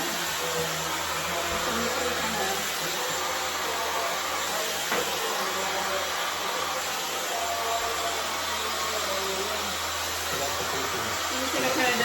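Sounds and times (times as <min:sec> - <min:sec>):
hair dryer blowing air: 0:00.0 - 0:12.0.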